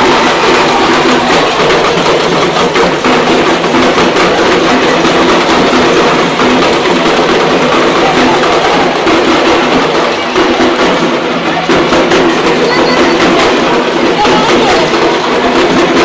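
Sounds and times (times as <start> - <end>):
frame drums beaten with sticks: 0.0 - 16.0.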